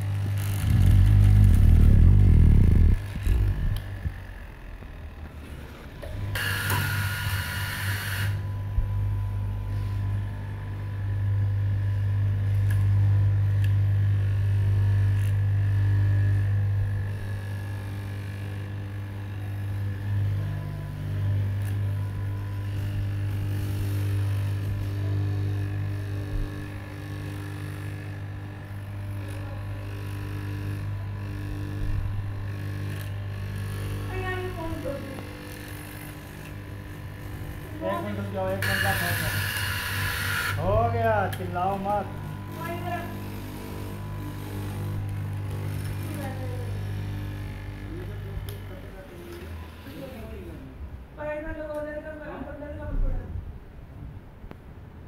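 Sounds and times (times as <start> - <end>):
cloth cutting machine humming: 0.0 - 50.8.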